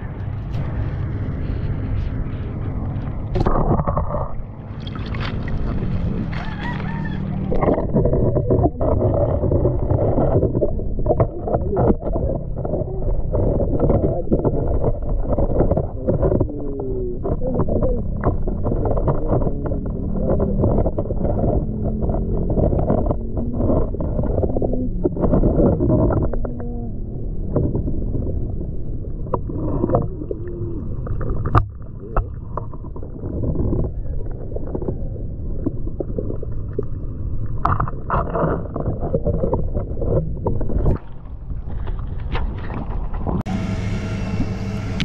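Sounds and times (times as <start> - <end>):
underwater rumbling and sloshing: 0.0 - 45.0.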